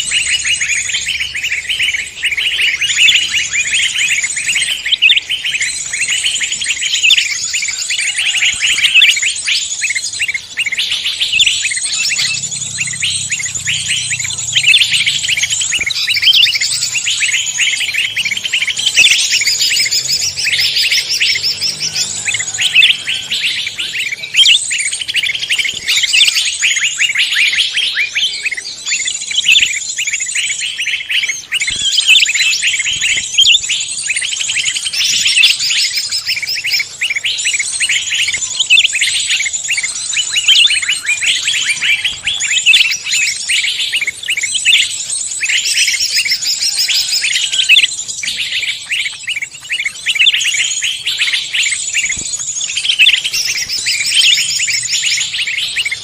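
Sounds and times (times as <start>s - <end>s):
chorus of songbirds: 0.0s - 56.0s.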